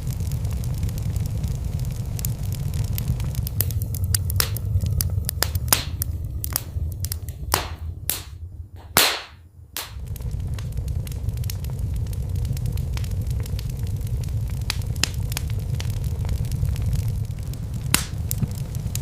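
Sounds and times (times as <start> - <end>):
low fire roar: 0.0 - 19.0
wood fire crackling: 0.0 - 19.0
sharp pops and snaps: 0.1 - 19.0.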